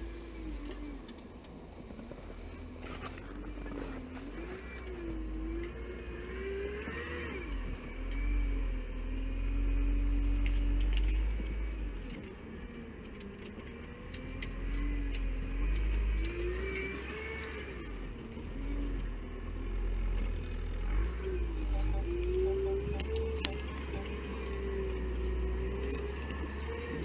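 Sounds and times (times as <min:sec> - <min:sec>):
all-terrain vehicle engine rumbling: 0:00.0 - 0:27.0.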